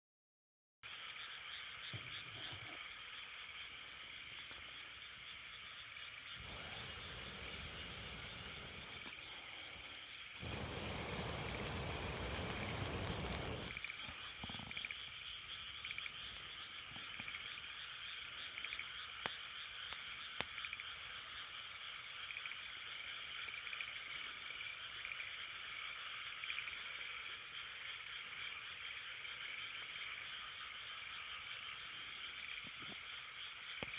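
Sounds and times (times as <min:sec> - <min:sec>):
frogs calling in a trill: 0:00.9 - 0:08.4, 0:09.1 - 0:33.9
campfire crackles: 0:02.8 - 0:33.9.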